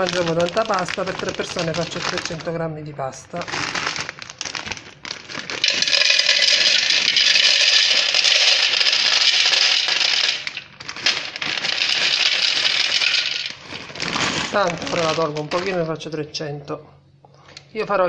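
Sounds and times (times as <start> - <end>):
dry pasta rattling into metal bowl: 0.0 - 2.5, 3.4 - 15.8.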